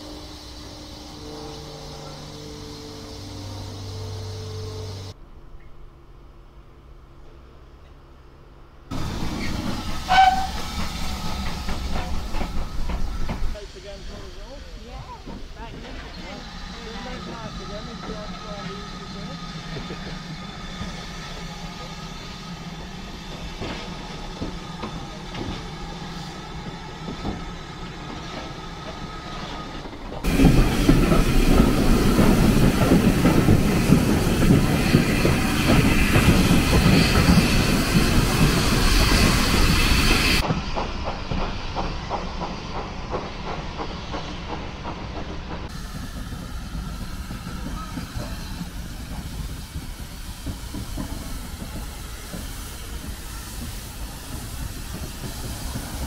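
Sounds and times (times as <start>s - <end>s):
steam locomotive hissing: 0.0s - 5.2s, 8.9s - 56.0s
moving train rushing noise: 0.0s - 5.3s, 6.5s - 56.0s.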